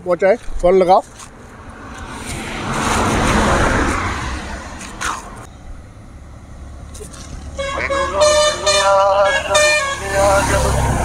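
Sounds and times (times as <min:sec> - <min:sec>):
road vehicle passing by: 0:01.0 - 0:11.0.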